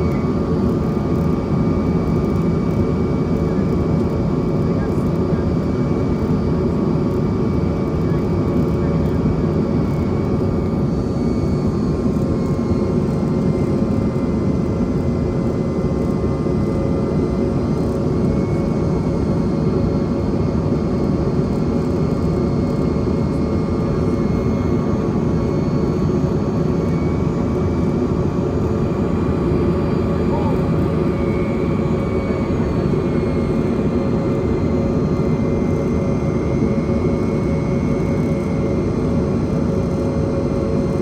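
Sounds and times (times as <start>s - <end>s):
jet engines humming: 0.0s - 41.0s
steady whining tones: 7.2s - 41.0s.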